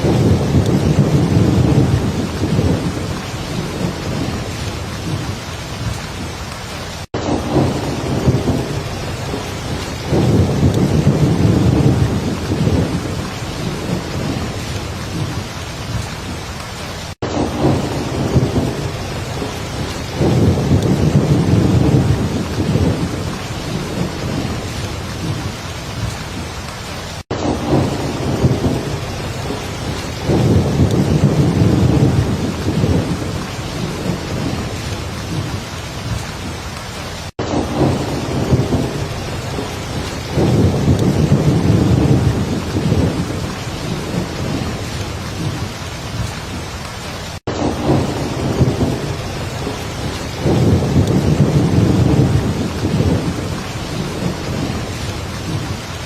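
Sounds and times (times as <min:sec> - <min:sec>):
heavy rain falling: 0:00.0 - 0:56.0
low thunder rumbling: 0:00.0 - 0:56.0.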